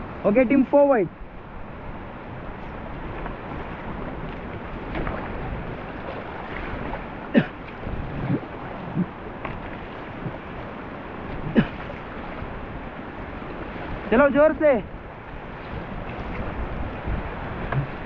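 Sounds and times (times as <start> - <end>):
wind on microphone: 1.2 - 18.0
river rapids rushing: 2.4 - 18.0.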